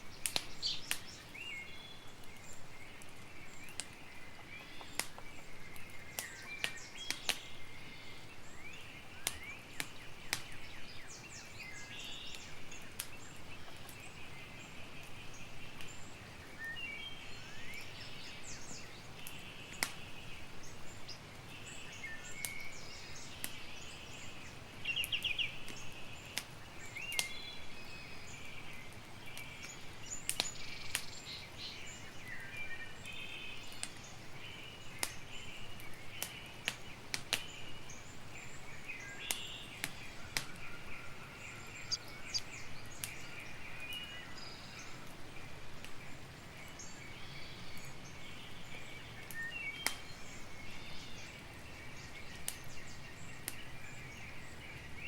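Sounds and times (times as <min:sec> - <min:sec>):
birds chirping: 0:00.0 - 0:55.0
campfire crackling and popping: 0:00.0 - 0:55.0.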